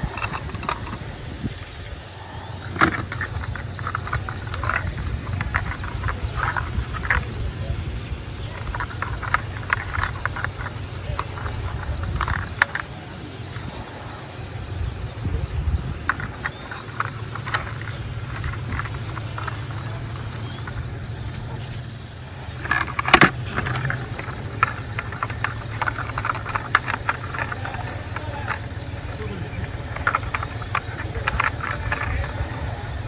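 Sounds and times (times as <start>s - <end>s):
toy cars clicking and clinking: 0.0s - 1.8s, 2.5s - 7.5s, 8.5s - 14.6s, 15.9s - 33.0s.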